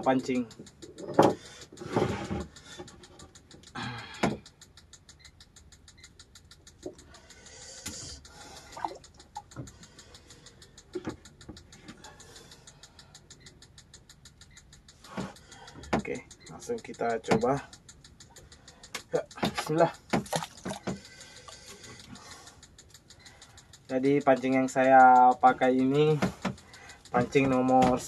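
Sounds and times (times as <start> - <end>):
faint steady ticking: 0.0 - 28.0
small knocks and clicks: 0.0 - 28.0.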